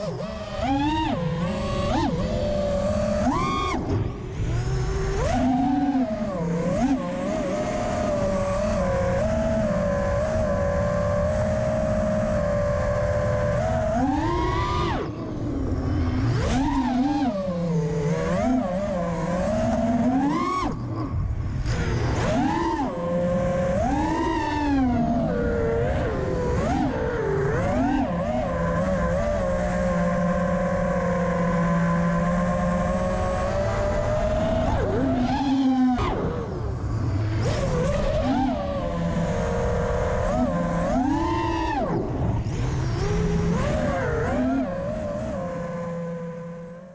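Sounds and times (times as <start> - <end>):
quadcopter motors whining: 0.0 - 46.9.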